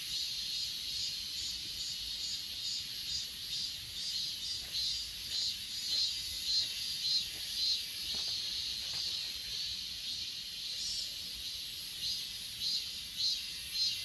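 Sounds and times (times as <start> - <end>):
crickets trilling: 0.0 - 14.0
insect chirping: 0.0 - 14.0.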